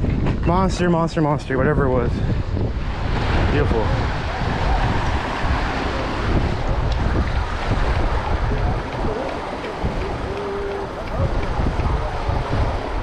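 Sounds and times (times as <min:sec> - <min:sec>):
wind buffeting microphone: 0:00.0 - 0:13.0
waves breaking over rocks: 0:01.7 - 0:13.0.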